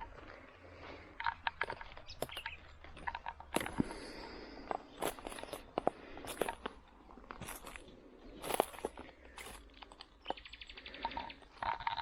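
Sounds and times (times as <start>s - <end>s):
footsteps of person walking: 0.0s - 12.0s.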